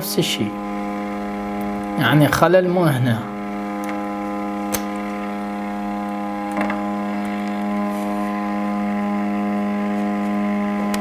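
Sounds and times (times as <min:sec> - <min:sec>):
amplifier mains hum: 0:00.0 - 0:11.0.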